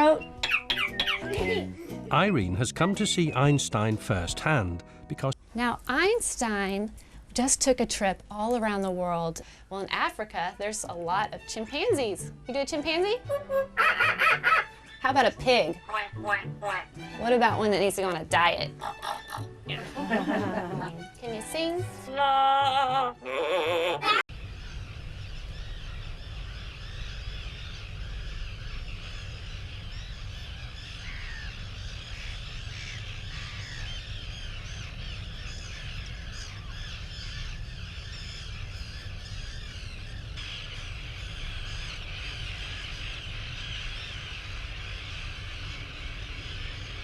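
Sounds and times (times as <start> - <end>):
birds chirping and cawing: 0.0 - 4.7, 11.1 - 21.9, 23.7 - 47.0.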